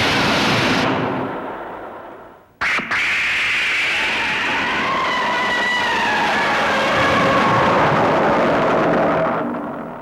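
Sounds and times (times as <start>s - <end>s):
rumble: 0.0s - 10.0s.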